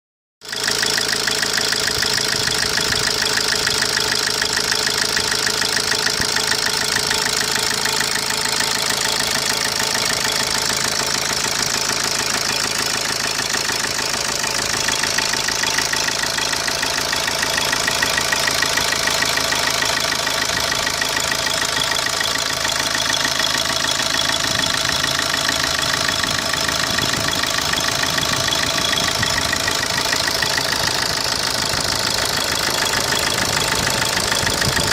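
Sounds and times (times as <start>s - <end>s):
diesel engine idling with ticking: 0.4s - 34.9s.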